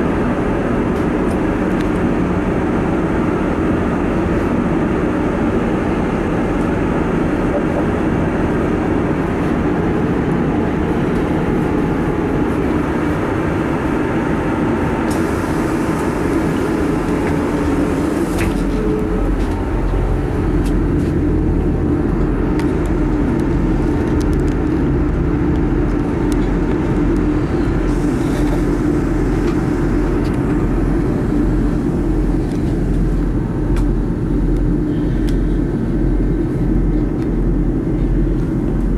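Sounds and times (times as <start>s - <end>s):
diesel engine running: 0.0s - 38.9s
train wheels on rails: 0.0s - 38.9s
low even throb: 2.1s - 38.9s.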